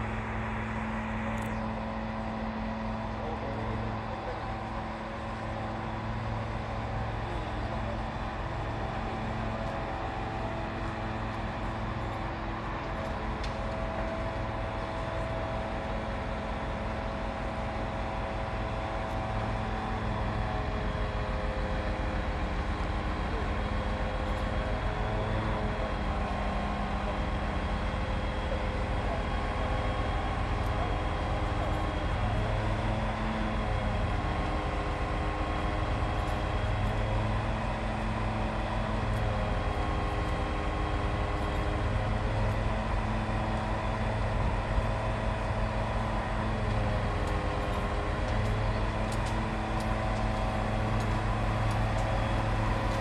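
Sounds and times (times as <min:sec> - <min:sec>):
fire truck engine running: 0:00.0 - 0:53.0.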